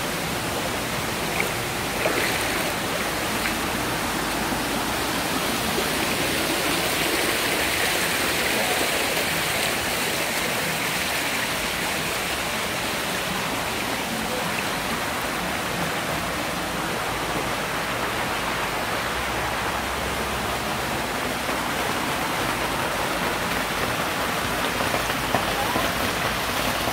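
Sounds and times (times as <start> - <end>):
flowing water rushing and splashing: 0.0 - 26.9
small cascade pouring into pool: 0.0 - 26.9.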